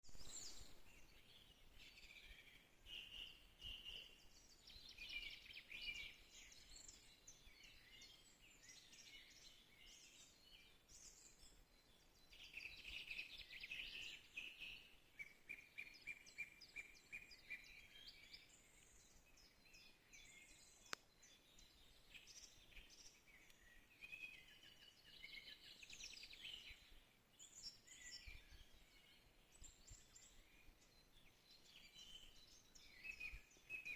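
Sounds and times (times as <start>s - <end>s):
birds chirping and singing: 0.1s - 33.9s.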